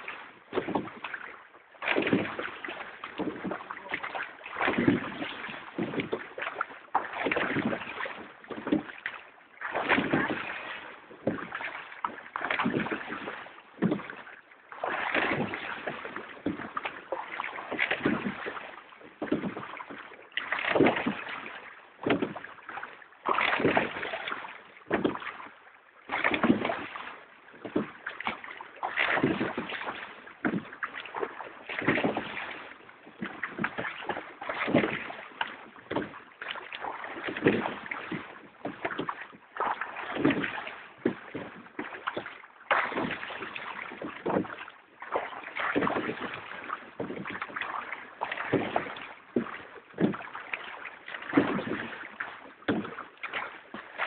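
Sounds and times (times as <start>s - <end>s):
oars splashing through water: 0.0s - 54.0s.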